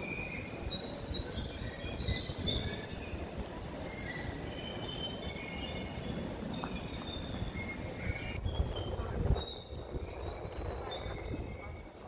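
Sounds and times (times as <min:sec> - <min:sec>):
train rumbling: 0:00.0 - 0:12.0
train wheels squealing: 0:00.0 - 0:12.0.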